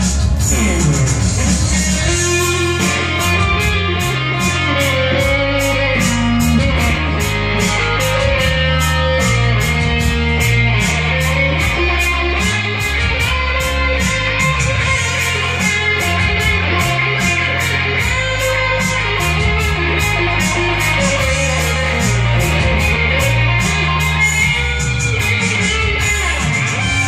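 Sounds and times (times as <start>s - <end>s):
electric guitar riffing: 0.0s - 27.0s.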